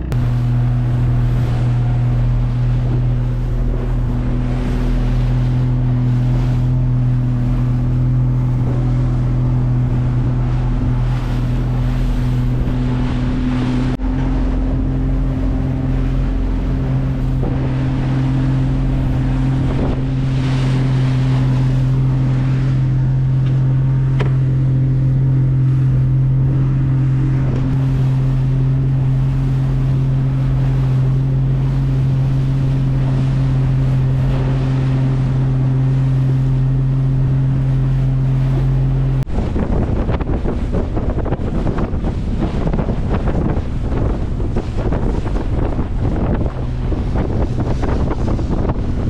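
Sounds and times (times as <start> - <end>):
boat engine humming: 0.0 - 49.0
sea noise: 0.0 - 49.0
wind buffeting microphone: 0.0 - 49.0.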